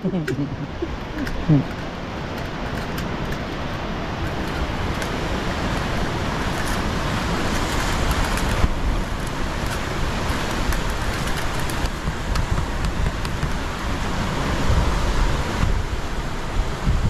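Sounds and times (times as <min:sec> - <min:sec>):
sea surf on rocky shore: 0:00.0 - 0:17.0
wind buffeting microphone: 0:00.0 - 0:17.0.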